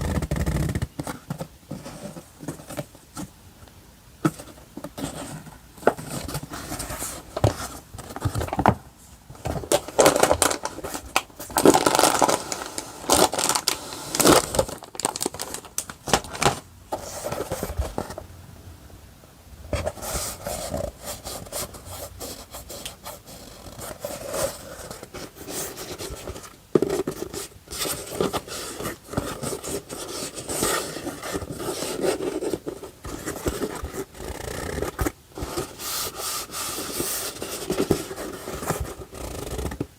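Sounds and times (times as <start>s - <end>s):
paper packaging rustling: 4.3s - 18.2s, 19.8s - 39.9s.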